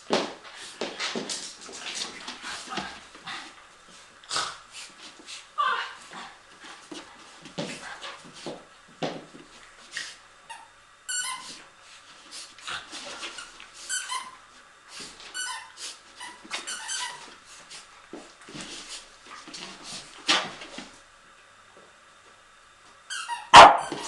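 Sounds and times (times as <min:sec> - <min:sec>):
dogs scuffling at play: 0:00.1 - 0:10.2, 0:11.1 - 0:21.1, 0:23.8 - 0:24.0.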